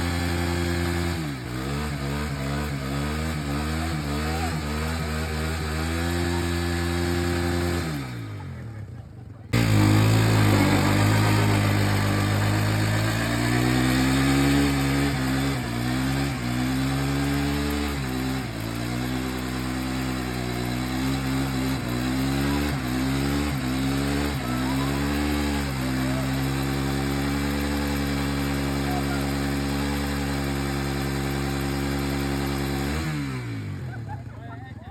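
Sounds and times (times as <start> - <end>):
motorcycle engine at high revs: 0.0 - 34.9.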